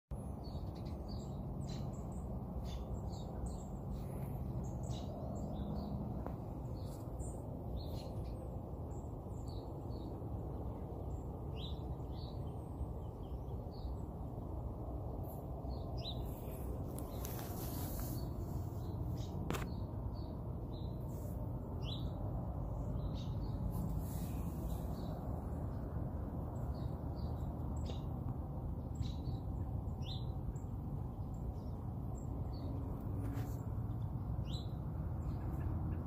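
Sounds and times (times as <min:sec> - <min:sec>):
low outdoor rumble: 0:00.1 - 0:36.0
small birds chirping: 0:00.1 - 0:36.0.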